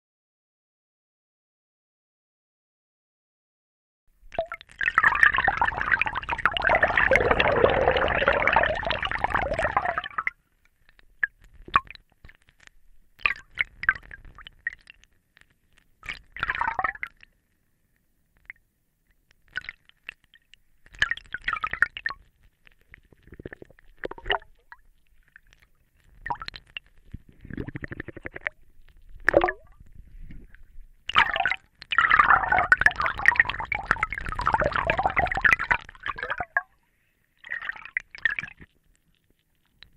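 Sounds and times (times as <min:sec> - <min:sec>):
underwater bubbling and gurgling: 0:04.3 - 0:17.6, 0:18.4 - 0:39.9.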